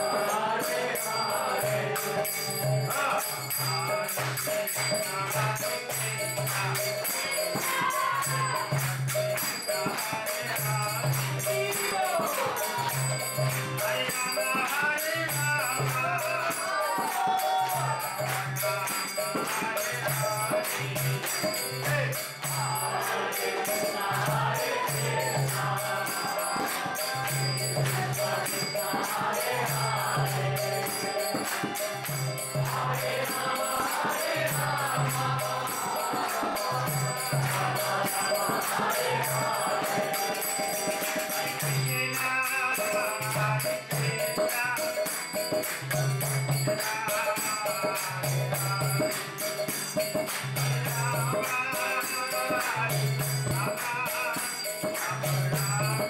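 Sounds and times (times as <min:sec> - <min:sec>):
voices chanting a prayer: 0:00.0 - 0:49.4
hand cymbals jingling: 0:00.0 - 0:56.0.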